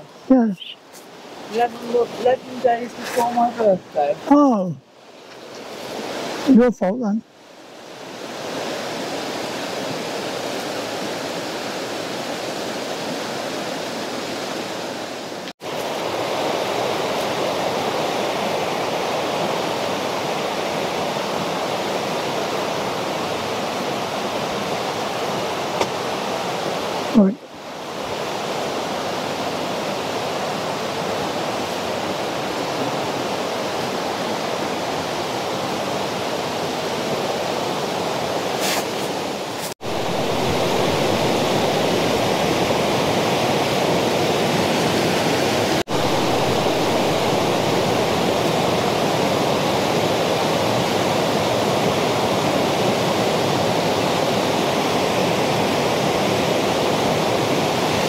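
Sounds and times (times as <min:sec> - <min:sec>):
river water rushing over rocks: 0:00.9 - 0:04.2, 0:04.8 - 0:06.6, 0:07.3 - 0:58.0.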